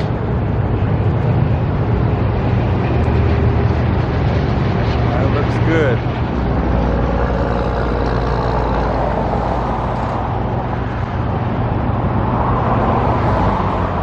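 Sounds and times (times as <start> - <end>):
engine humming: 0.0 - 14.0
road traffic: 0.0 - 14.0.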